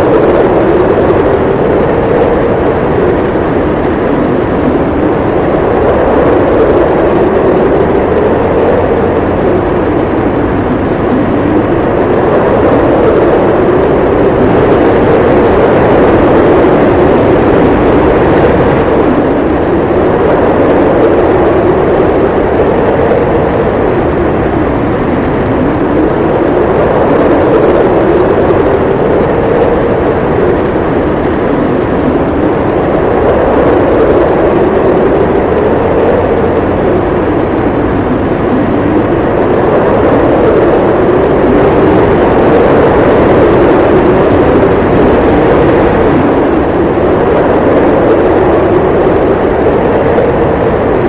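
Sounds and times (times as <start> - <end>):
howling snowstorm wind: 0.0 - 51.0.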